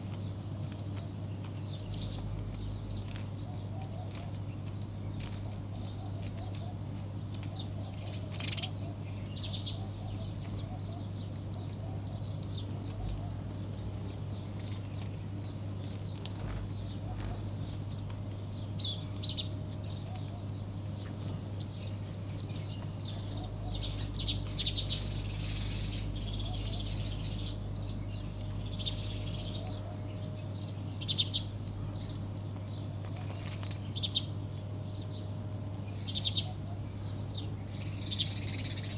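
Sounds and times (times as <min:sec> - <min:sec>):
small birds chirping: 0:00.0 - 0:38.9
steady low hum: 0:00.0 - 0:38.9.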